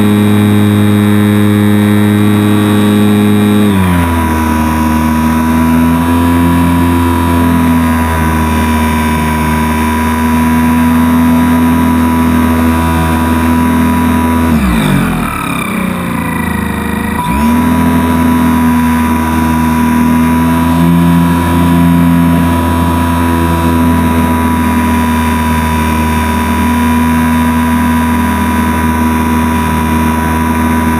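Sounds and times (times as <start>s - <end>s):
electric motor propeller whine: 0.0s - 30.9s.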